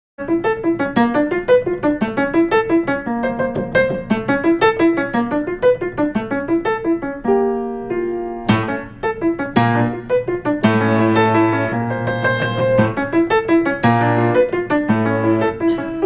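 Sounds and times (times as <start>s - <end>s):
piano playing: 0.2s - 16.0s.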